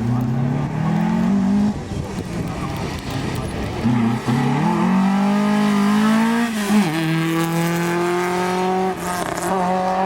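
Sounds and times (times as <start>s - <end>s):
car engine running hard: 0.0s - 10.0s.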